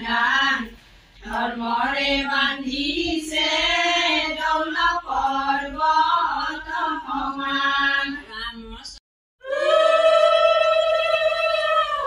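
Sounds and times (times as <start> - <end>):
women singing: 0.0 - 12.0.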